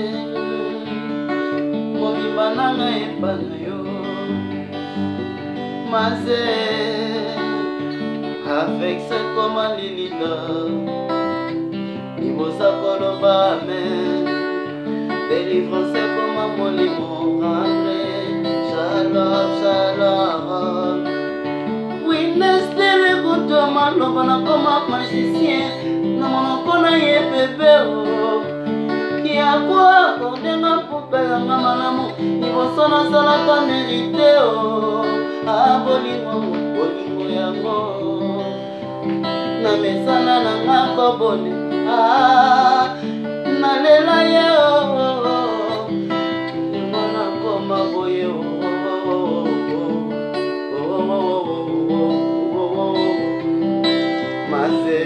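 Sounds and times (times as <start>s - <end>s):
fingerpicked acoustic guitar: 0.0s - 55.0s
man singing: 0.0s - 55.0s.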